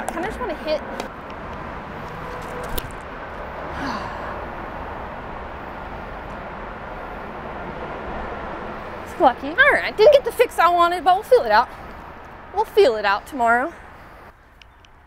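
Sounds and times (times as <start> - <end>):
outdoor hiss and rumble: 0.0 - 15.0.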